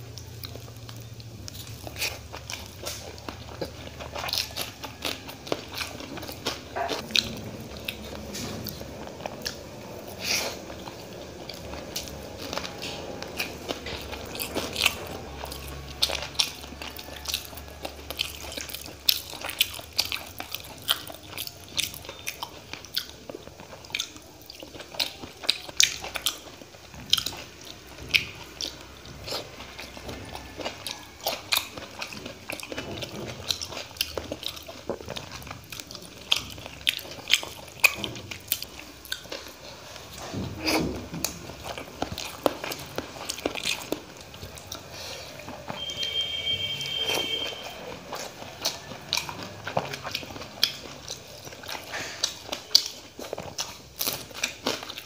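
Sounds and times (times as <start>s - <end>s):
man chewing food: 0.0s - 55.0s.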